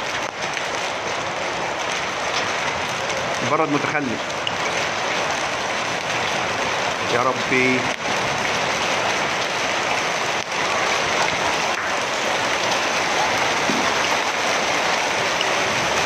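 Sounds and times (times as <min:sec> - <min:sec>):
hail and rain pattering: 0:00.0 - 0:16.0.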